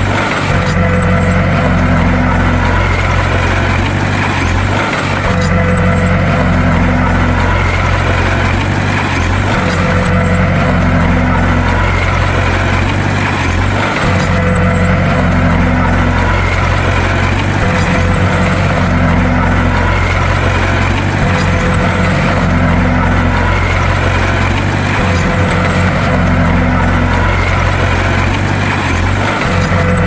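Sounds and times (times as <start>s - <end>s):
bulldozer diesel engine droning: 0.0s - 30.0s
higher engine tone: 0.0s - 30.0s.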